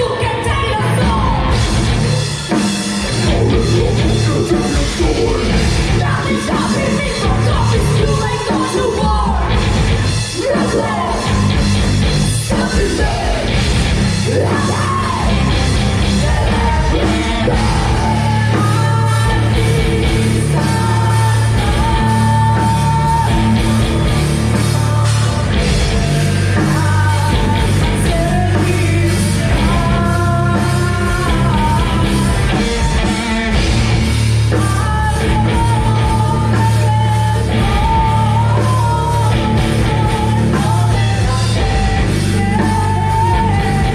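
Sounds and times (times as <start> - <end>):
live rock band: 0.0 - 43.9
yelled vocals: 0.0 - 43.9.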